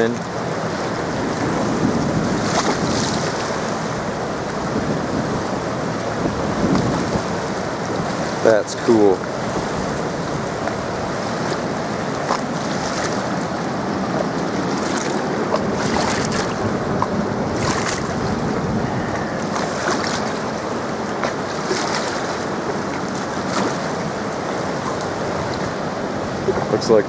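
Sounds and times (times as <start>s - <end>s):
water rushing through dam gates: 0.0s - 27.0s
water splashes: 0.0s - 27.0s.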